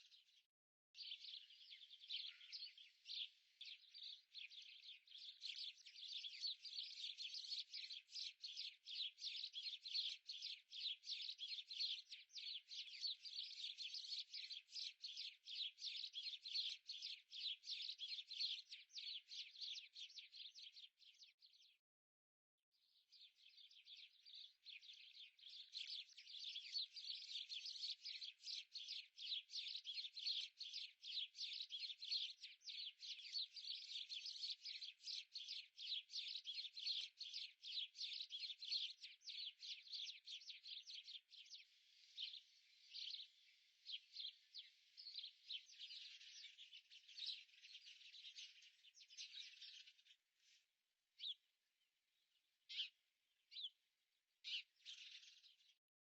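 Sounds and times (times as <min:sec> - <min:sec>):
bird chirping: 0:01.0 - 0:21.8, 0:23.0 - 0:50.6, 0:52.7 - 0:53.8, 0:54.4 - 0:55.8.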